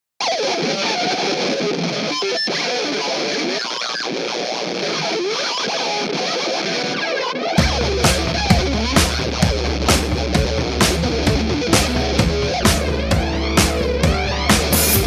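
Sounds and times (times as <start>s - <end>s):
distorted electric guitar: 0.2s - 15.0s.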